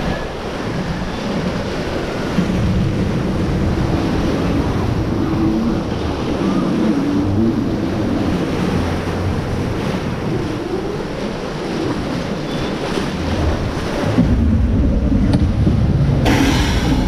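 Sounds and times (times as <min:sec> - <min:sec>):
white water rushing: 0:00.0 - 0:17.0
wind buffeting microphone: 0:00.0 - 0:17.0.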